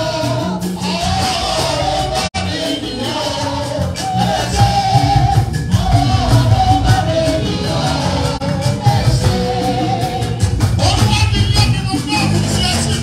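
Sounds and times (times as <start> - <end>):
church music singing over a beat: 0.0 - 13.0.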